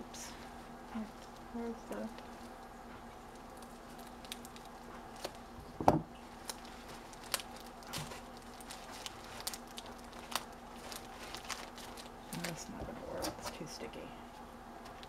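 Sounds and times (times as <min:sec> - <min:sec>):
plastic packaging crinkling: 0:01.0 - 0:05.6, 0:06.2 - 0:13.7.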